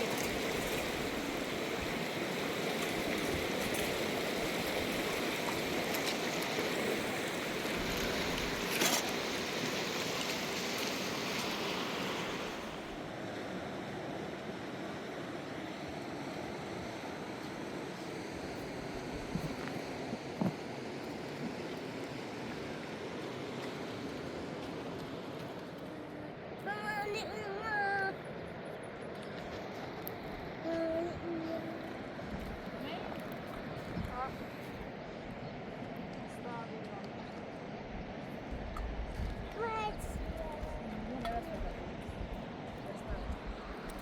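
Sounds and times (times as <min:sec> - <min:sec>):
river water rushing: 0:00.0 - 0:38.5.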